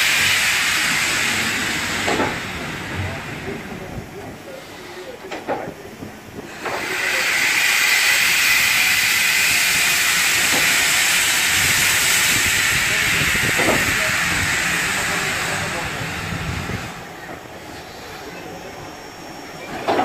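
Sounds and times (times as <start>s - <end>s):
steam locomotive hissing steam: 0.0s - 20.0s.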